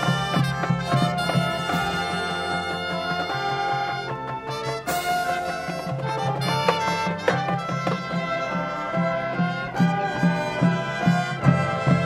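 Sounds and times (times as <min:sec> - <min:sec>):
brass chords: 0:00.0 - 0:12.0.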